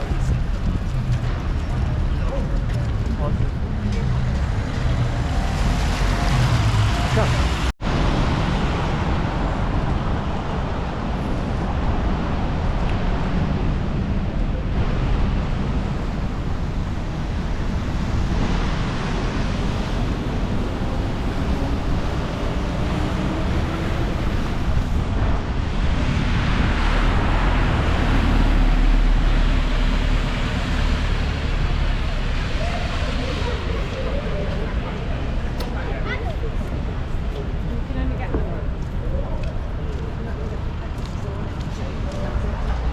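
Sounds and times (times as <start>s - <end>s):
city street traffic: 0.0s - 42.9s
wind buffeting the microphone: 0.0s - 42.9s.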